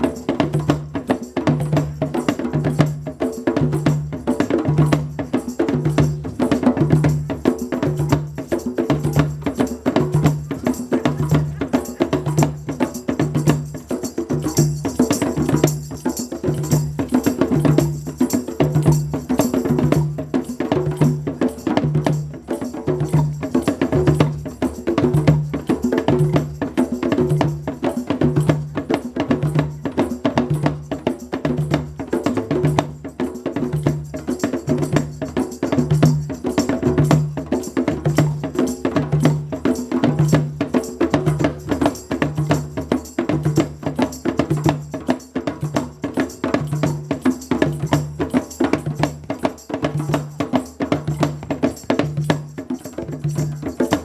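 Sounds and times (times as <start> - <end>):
clicking hand percussion: 0.0 - 54.0.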